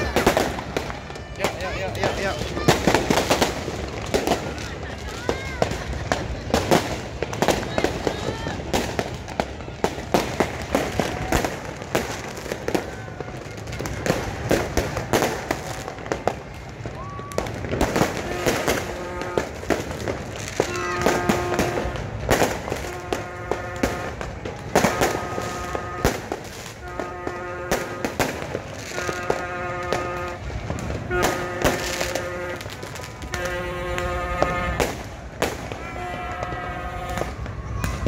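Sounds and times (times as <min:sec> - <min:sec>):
fireworks popping and banging: 0:00.0 - 0:38.0.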